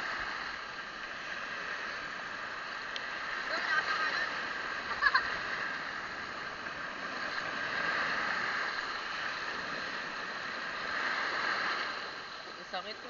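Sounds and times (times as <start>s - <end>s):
shallow sea water rushing: 0.0s - 13.0s
wind: 0.0s - 13.0s.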